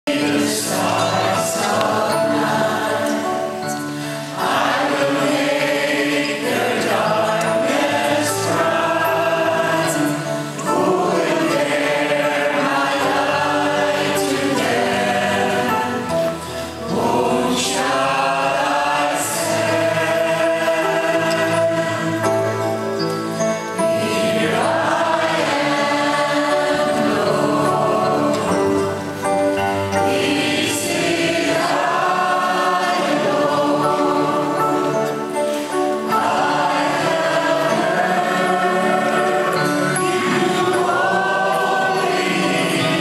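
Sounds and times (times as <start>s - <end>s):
group singing a worship song: 0.1s - 22.8s, 23.8s - 29.2s, 29.8s - 43.0s.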